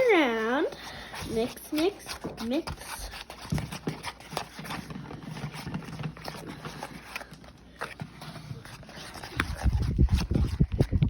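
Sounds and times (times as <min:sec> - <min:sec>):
stirring in a bowl: 0:00.0 - 0:11.0.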